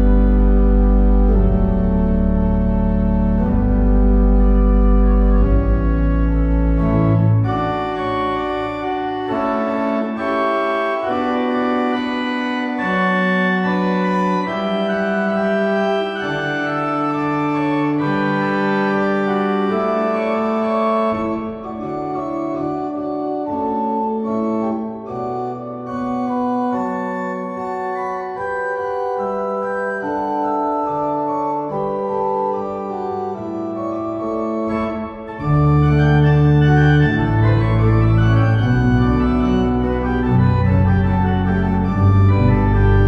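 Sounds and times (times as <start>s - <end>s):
church organ chords: 0.0s - 43.0s.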